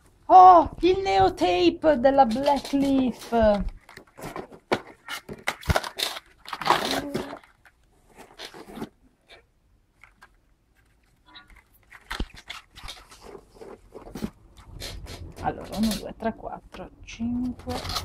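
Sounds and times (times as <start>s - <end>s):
plastic packaging crinkling: 2.1s - 16.2s, 17.5s - 18.0s.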